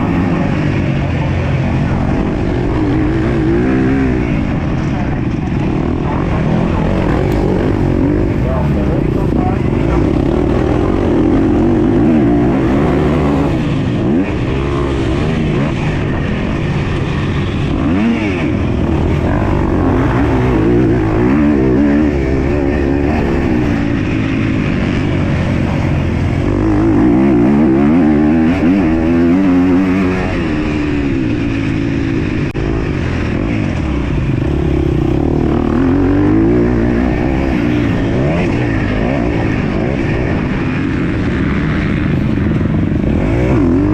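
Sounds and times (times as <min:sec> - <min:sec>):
dirt bike engine racing: 0:00.0 - 0:43.9.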